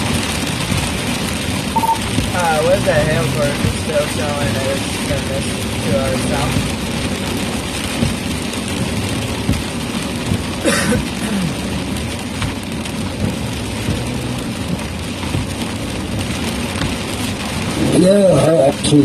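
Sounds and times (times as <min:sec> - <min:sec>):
rain on a moving car: 0:00.0 - 0:19.0.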